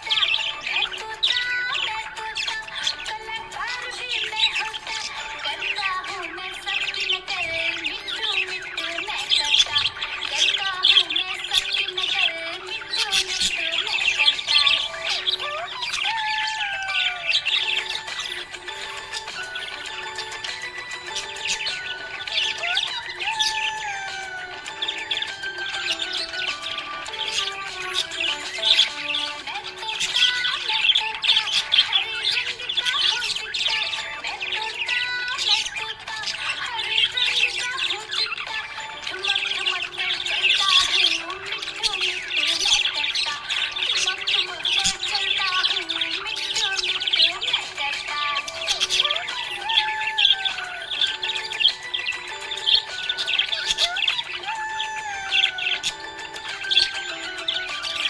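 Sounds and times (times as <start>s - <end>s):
budgerigars chirping: 0.0s - 58.0s.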